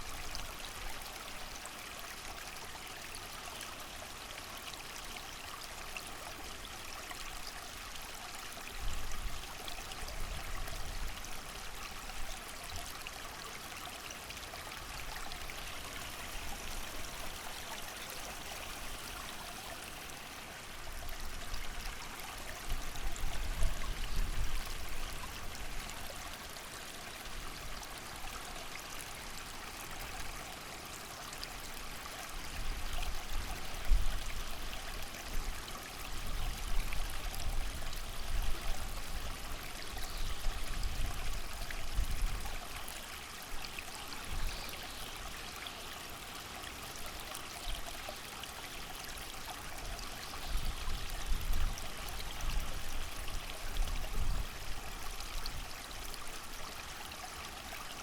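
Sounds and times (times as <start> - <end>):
rain: 0.0 - 2.0, 13.1 - 58.0
creek running: 0.0 - 58.0.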